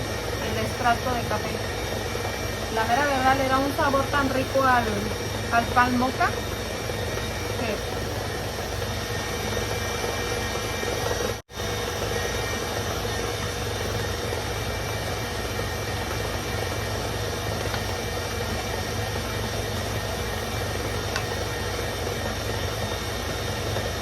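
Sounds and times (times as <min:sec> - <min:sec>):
electric mixer beating batter: 0:00.0 - 0:24.0.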